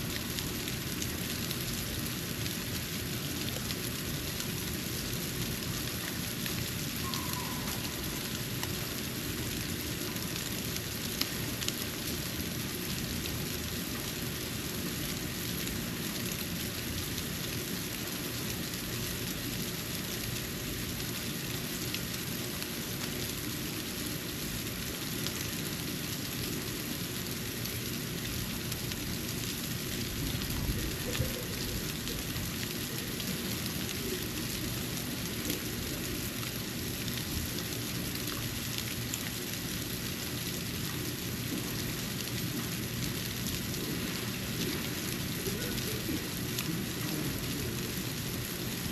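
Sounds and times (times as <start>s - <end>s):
snow falling on a porch: 0.0s - 48.9s.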